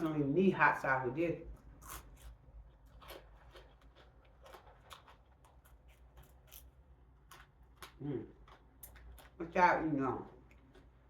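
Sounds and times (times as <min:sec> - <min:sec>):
person chewing: 0:01.5 - 0:09.4, 0:10.1 - 0:11.0.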